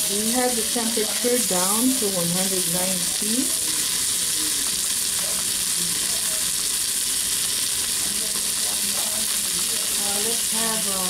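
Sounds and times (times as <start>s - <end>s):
chicken sizzling in a skillet: 0.0s - 11.0s.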